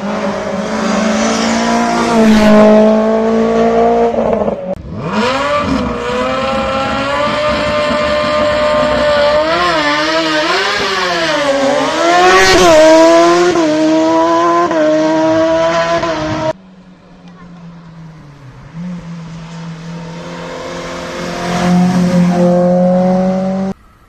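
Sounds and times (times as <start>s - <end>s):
racing car engine revving: 0.0s - 16.6s, 17.6s - 23.8s.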